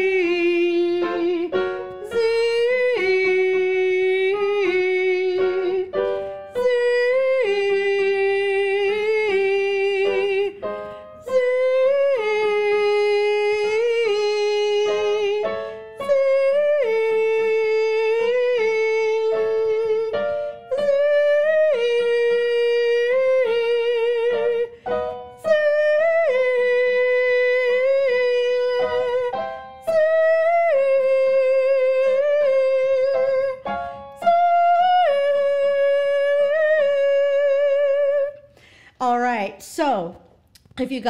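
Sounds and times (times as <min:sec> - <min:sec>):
woman singing vocal warm-up: 0:00.0 - 0:38.5
piano: 0:00.0 - 0:41.0.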